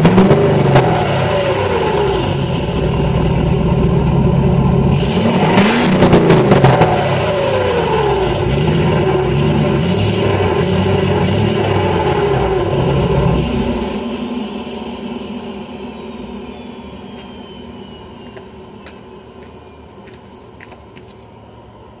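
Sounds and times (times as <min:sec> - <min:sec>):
diesel engine running loud: 0:00.0 - 0:22.0
turbocharger whine: 0:00.0 - 0:22.0.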